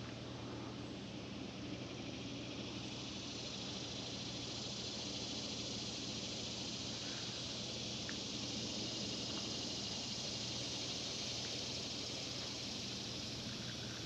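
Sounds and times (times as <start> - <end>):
constant low hum: 0.0 - 14.0
insects buzzing: 0.0 - 14.0.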